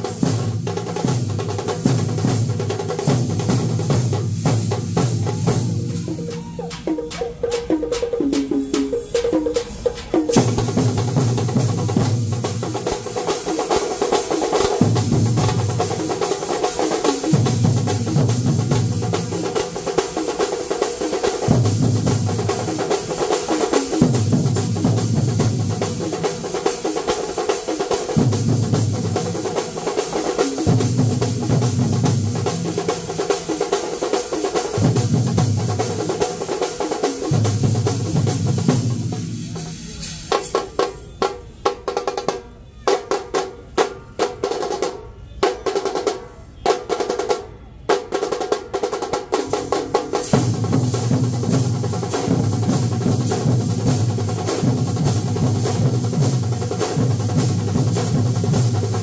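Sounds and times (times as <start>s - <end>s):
massed drums rolling and striking: 0.0s - 45.0s, 48.0s - 59.0s.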